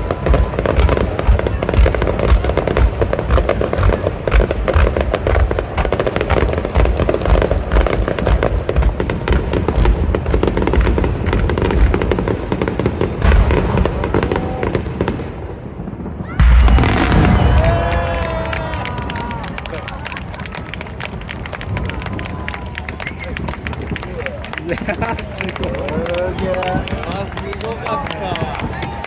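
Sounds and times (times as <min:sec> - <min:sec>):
fireworks booming and crackling: 0:00.0 - 0:29.0.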